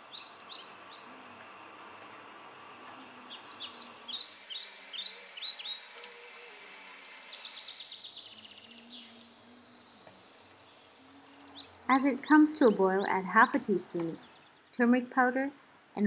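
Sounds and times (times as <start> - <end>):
songbird chirping and trilling: 0.0 - 16.0.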